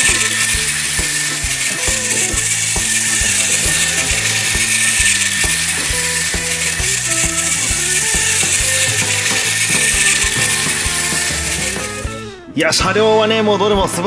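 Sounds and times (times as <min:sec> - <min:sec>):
clockwork toy train whirring: 0:00.0 - 0:12.1
background music: 0:00.0 - 0:14.0.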